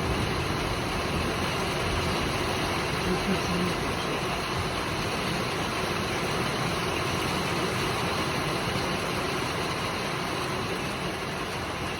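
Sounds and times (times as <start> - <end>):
heavy rain pouring: 0.0 - 11.9.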